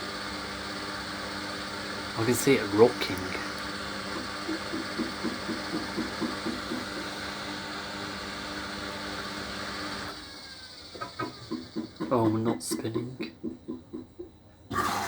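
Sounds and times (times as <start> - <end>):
washer dryer drum motor running: 0.0 - 15.0.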